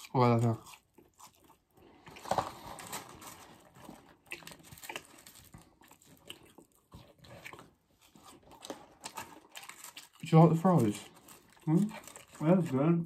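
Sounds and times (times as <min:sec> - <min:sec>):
crunchy chewing close up: 0:00.0 - 0:13.0.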